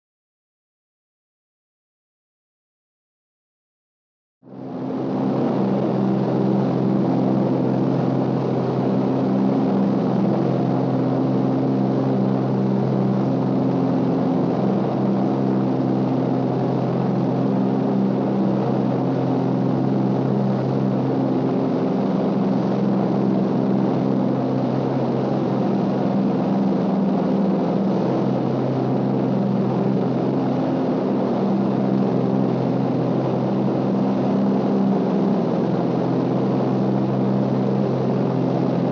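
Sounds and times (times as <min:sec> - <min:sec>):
propeller plane engines droning: 0:04.5 - 0:38.9.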